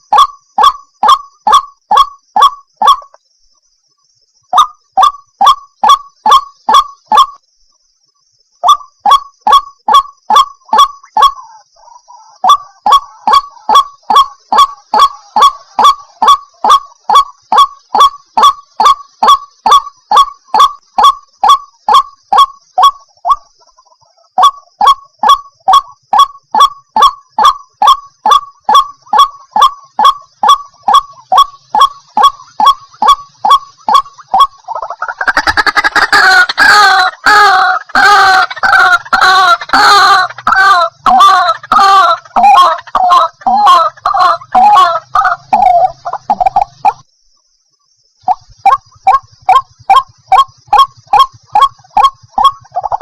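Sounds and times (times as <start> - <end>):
waterhen calling: 0.0 - 3.2, 4.5 - 7.4, 8.6 - 47.0, 48.3 - 53.0.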